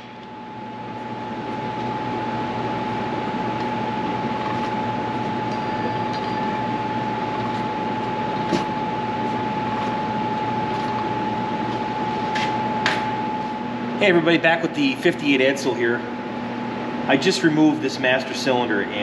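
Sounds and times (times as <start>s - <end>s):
fan whirring with high whine: 0.0s - 19.0s.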